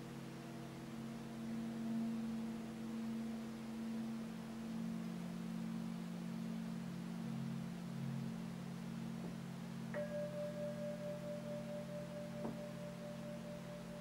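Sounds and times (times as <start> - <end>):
singing bowls sustained tones: 0.0 - 14.0.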